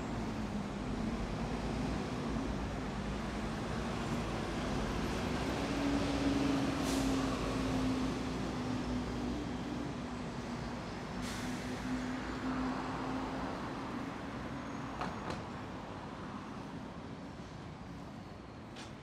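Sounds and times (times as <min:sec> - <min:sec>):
passing vehicles: 0:00.1 - 0:19.0.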